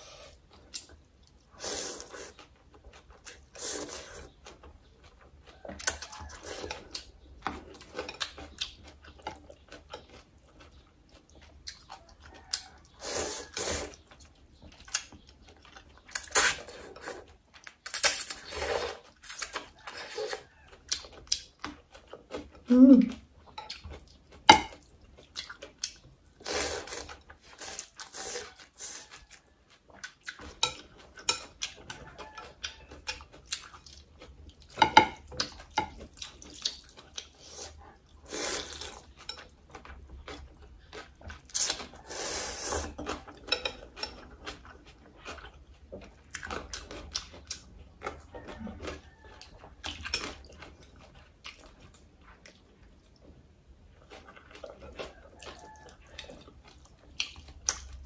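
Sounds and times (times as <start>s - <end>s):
slurping and chewing: 0.0s - 58.0s.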